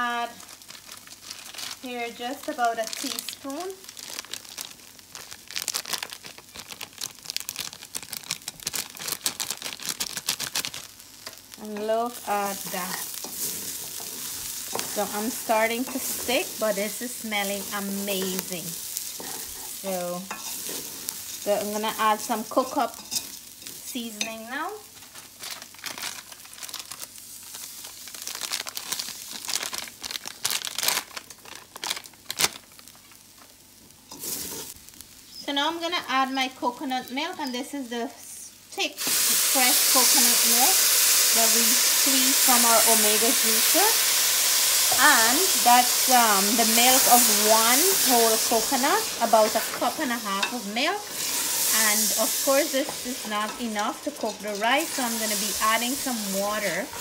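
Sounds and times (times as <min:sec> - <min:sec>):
plastic packet crinkling: 0:00.2 - 0:23.8, 0:24.7 - 0:34.8, 0:40.0 - 0:57.0.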